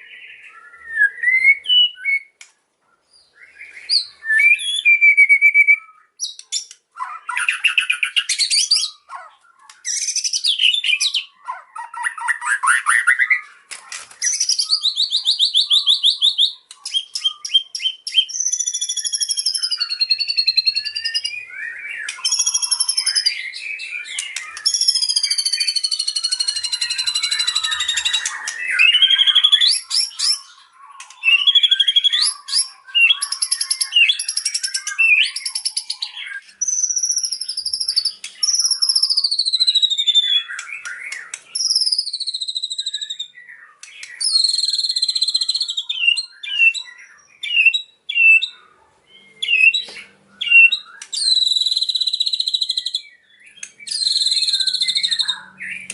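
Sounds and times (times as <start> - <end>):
songbird singing whistles and rattles: 0.0 - 48.6, 49.2 - 55.9.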